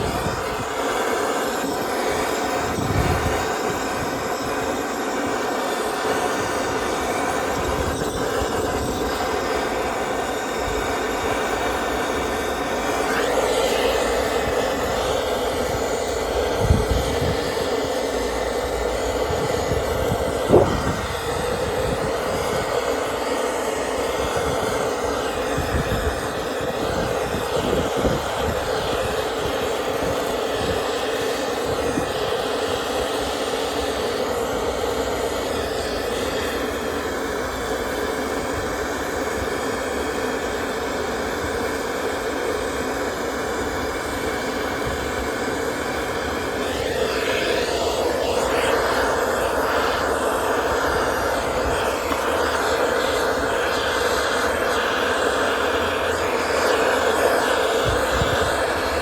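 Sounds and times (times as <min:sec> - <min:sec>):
machine running: 0:00.0 - 0:38.2, 0:44.8 - 0:59.0.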